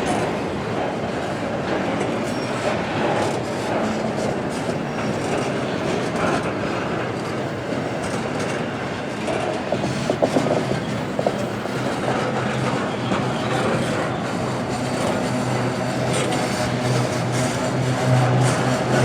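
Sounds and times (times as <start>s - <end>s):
freight train wheels clacking: 0.0s - 19.0s.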